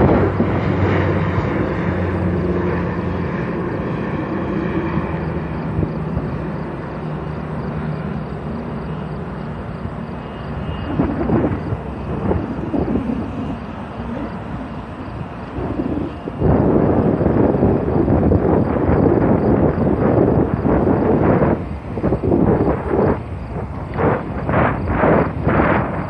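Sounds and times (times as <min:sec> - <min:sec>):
distant jet engines rumbling: 0:00.0 - 0:26.0.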